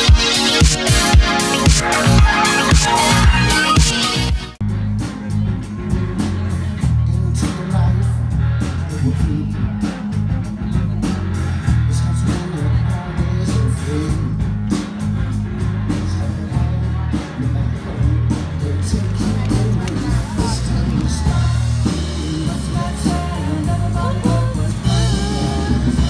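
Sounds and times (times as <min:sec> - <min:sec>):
music with heavy bass: 0:00.0 - 0:26.0.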